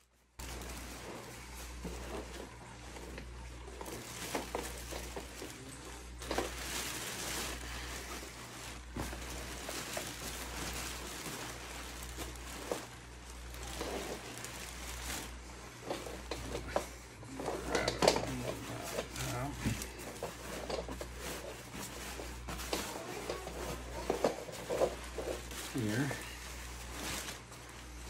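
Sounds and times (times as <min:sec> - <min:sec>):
plastic bag and fabric rustling: 0:00.0 - 0:28.0
steady low hum: 0:00.0 - 0:28.0.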